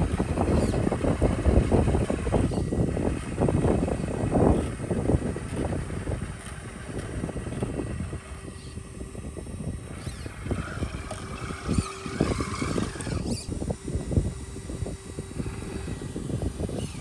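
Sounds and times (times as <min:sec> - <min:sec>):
electric motor and gears whining: 0:00.0 - 0:17.0
wind buffeting microphone: 0:00.0 - 0:17.0.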